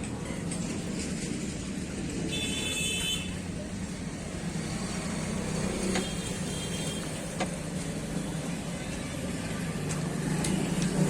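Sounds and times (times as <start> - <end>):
road and street noise: 0.0 - 11.0.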